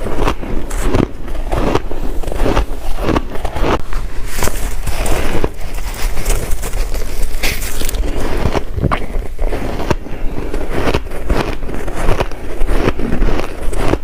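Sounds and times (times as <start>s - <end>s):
ice crunching when chewed: 0.0s - 14.0s.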